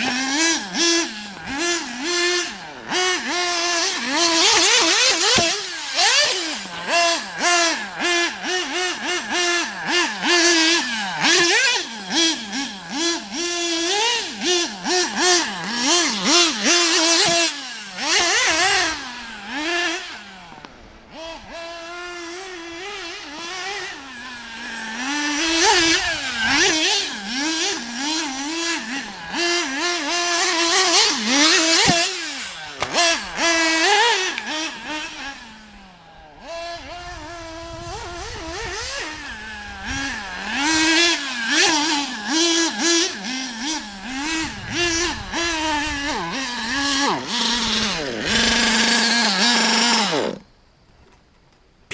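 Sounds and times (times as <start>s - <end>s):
rc car engine revving: 0.0s - 50.6s.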